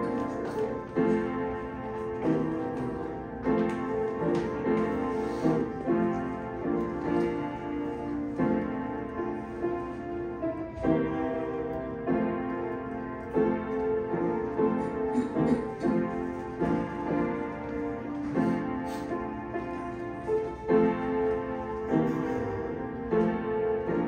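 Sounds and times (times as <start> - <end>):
solo piano chords: 0.0 - 24.0.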